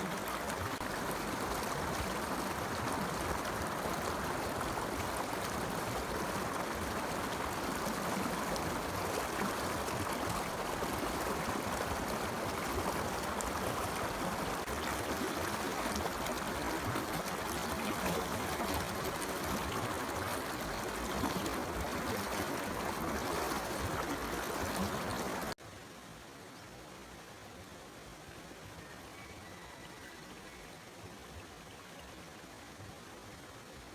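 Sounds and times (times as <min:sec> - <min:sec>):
forest stream running: 0:00.0 - 0:33.9.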